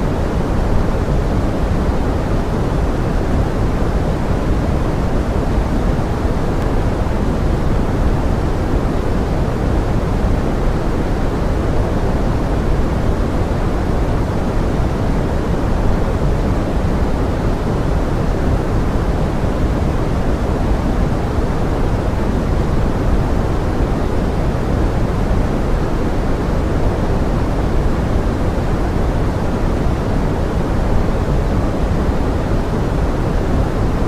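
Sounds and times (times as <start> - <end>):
pink noise hiss: 0.0 - 34.0.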